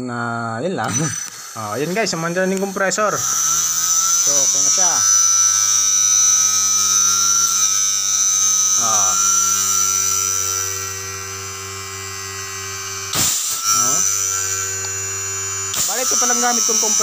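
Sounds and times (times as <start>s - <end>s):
compressor hum with high whine: 0.0s - 17.0s.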